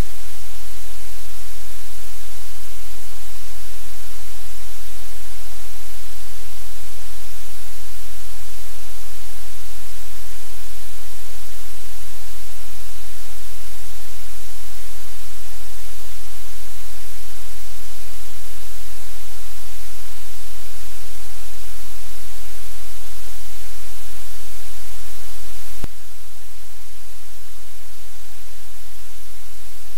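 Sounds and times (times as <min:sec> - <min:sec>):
static hiss: 0:00.0 - 0:29.9.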